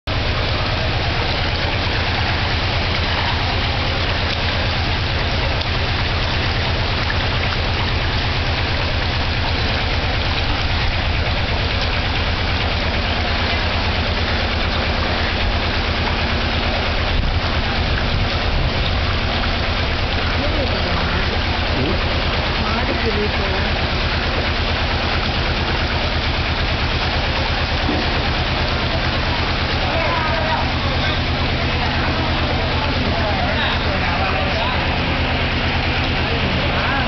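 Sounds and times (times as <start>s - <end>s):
low pulsing rumble: 0.0s - 37.0s
rain and floodwater rushing: 0.1s - 37.0s.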